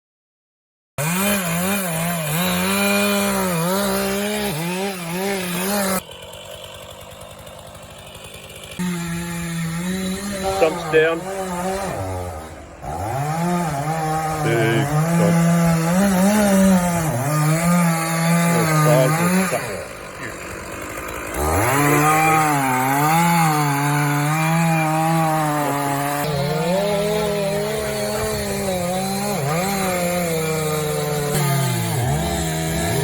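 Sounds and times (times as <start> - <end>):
chainsaw cutting wood: 1.0 - 33.0.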